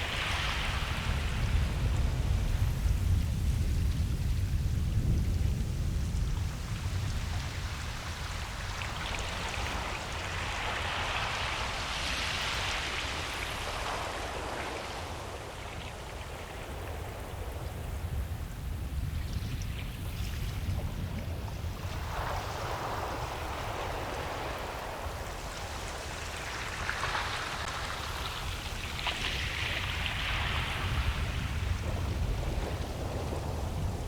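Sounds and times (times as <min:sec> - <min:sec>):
wave washing up sand: 0:00.0 - 0:34.0
waves breaking: 0:00.0 - 0:34.0.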